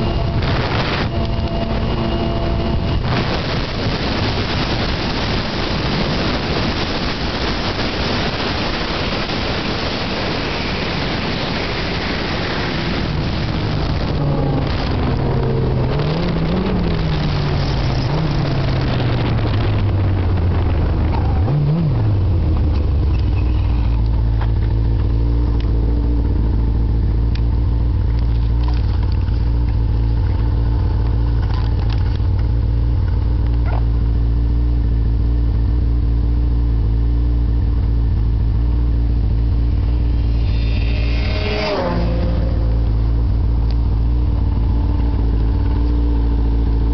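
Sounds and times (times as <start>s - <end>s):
snowmobile engine: 0.0s - 33.4s, 34.6s - 46.9s.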